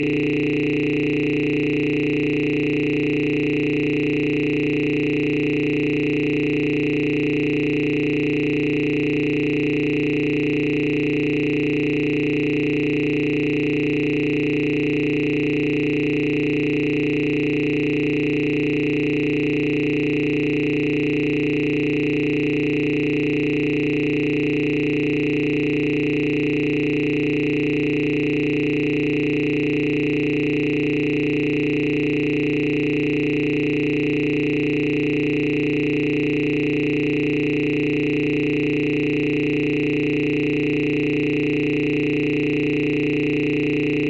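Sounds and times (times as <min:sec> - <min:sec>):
electronic drone of held tones: 0:00.0 - 0:40.0.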